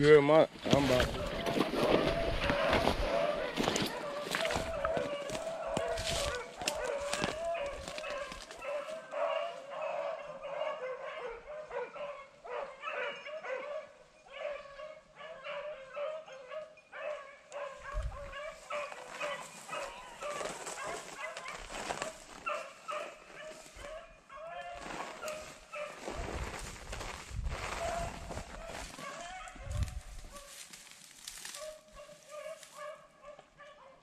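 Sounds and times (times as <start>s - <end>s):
beagles baying: 0.9s - 26.6s, 27.7s - 30.6s, 31.4s - 34.0s.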